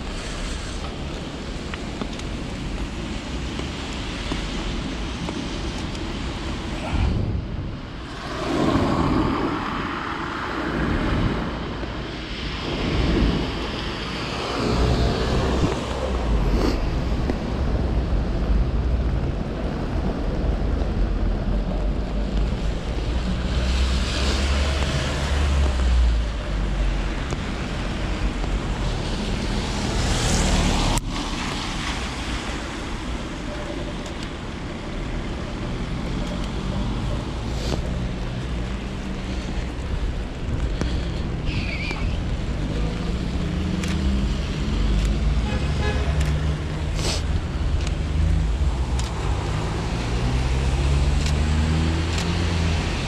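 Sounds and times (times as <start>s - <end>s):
cars swishing past on wet road: 0.0s - 53.0s
traffic hiss on wet road: 0.0s - 53.0s
wind rumbling on microphone: 0.0s - 53.0s.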